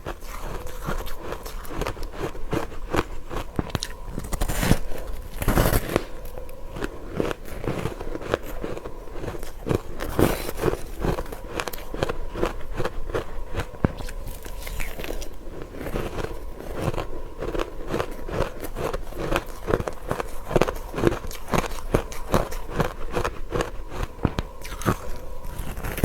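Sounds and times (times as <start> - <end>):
crunching and chewing ice: 0.0 - 26.0.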